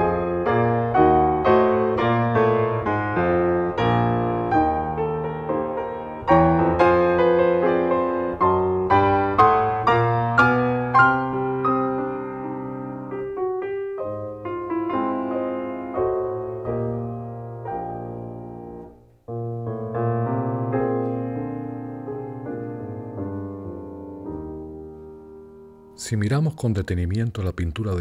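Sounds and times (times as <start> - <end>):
solo piano music: 0.0 - 26.2.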